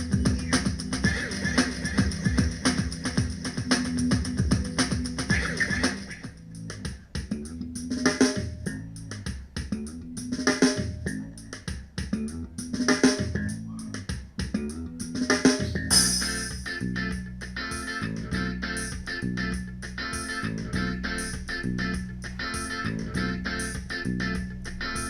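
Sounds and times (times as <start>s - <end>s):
heavy beat accent: 0.0s - 25.0s
music with drums bass and guitar: 0.0s - 25.0s.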